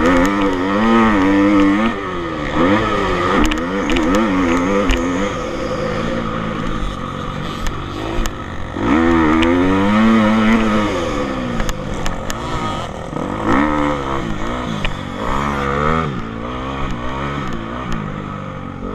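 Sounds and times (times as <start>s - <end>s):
motocross bike engine revving: 0.0s - 18.9s.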